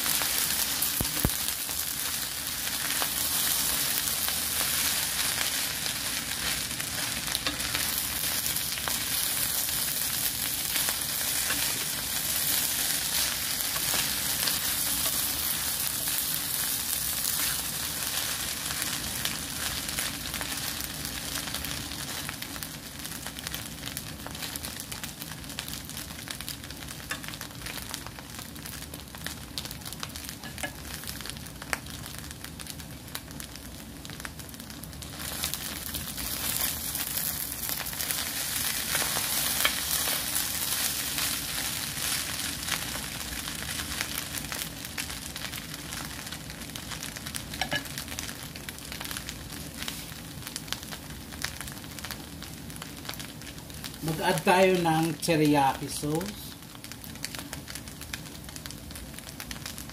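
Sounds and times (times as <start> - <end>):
fried rice sizzling in a pan: 0.0 - 59.9.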